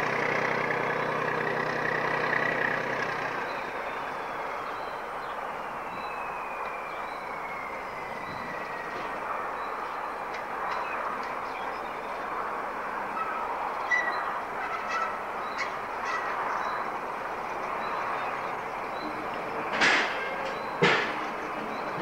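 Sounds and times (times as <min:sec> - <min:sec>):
diesel locomotive droning: 0:00.0 - 0:22.0.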